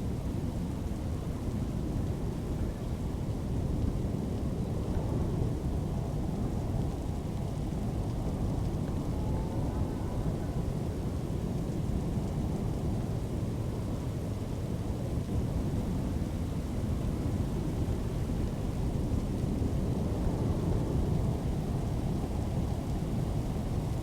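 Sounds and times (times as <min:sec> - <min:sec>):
rain: 0:00.0 - 0:24.0
wind: 0:00.0 - 0:24.0.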